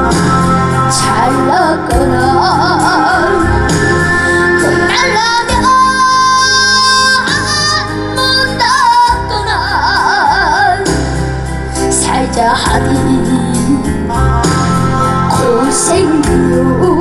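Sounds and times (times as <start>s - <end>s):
band accompaniment: 0.0s - 17.0s
boy singing ballad with vibrato: 0.0s - 17.0s.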